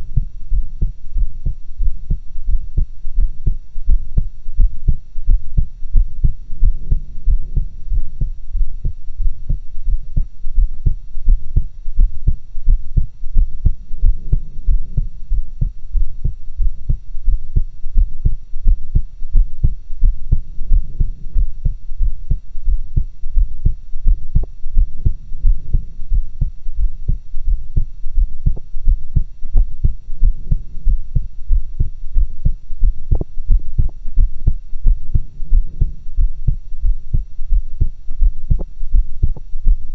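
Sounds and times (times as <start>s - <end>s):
faint steady hum: 0.0s - 39.9s
heartbeat through stethoscope: 0.0s - 39.9s.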